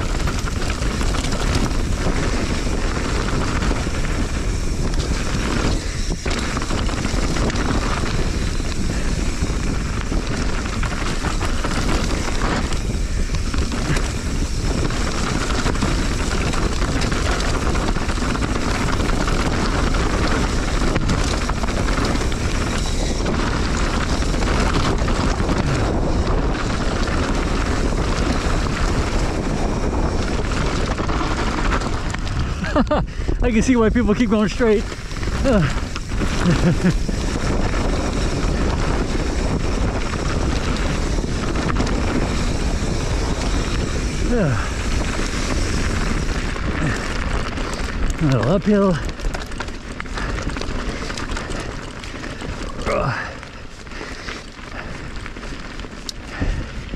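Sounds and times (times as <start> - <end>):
bike tyres rumbling over rocks: 0.0 - 56.9
wind buffeting on microphone: 0.0 - 56.9.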